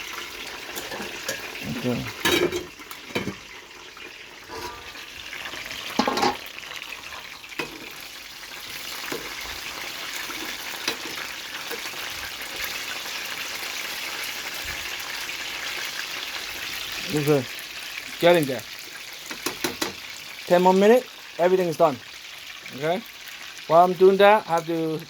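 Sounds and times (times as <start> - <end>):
wings sizzling in hot oil: 0.0 - 25.0.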